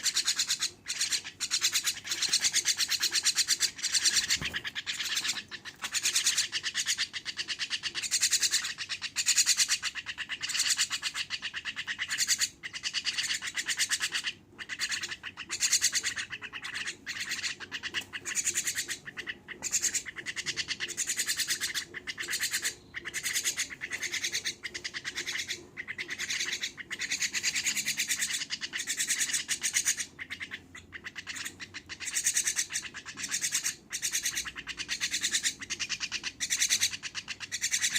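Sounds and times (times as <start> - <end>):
myna chattering calls: 0.0 - 37.9.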